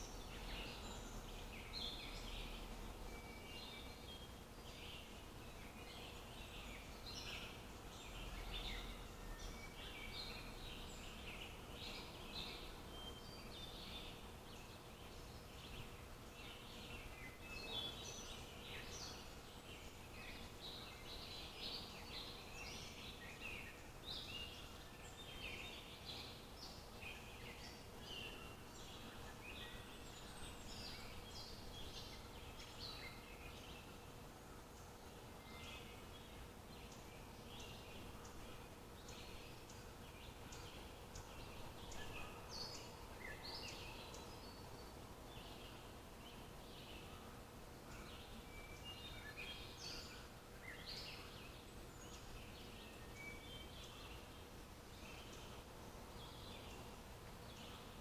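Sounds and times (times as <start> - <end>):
birds chirping: 0.0 - 58.0
faint steady hum: 0.0 - 58.0
outdoor background noise: 0.0 - 58.0.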